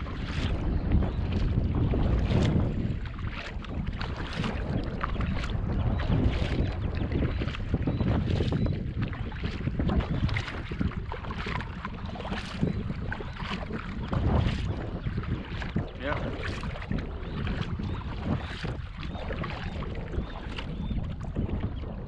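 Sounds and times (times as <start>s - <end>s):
kayak paddle splashing in water: 0.0s - 22.0s
wind buffeting microphone: 0.0s - 22.0s.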